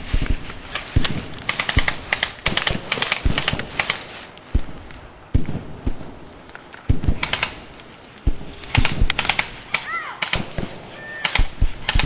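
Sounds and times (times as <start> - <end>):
airsoft gun clicks and crackles: 0.7 - 5.0, 6.3 - 12.0.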